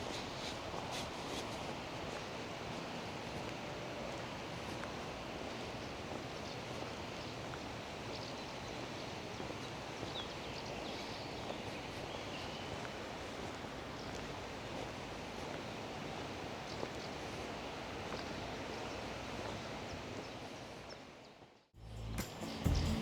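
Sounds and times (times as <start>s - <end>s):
outdoor ambient noise: 0.0s - 23.0s.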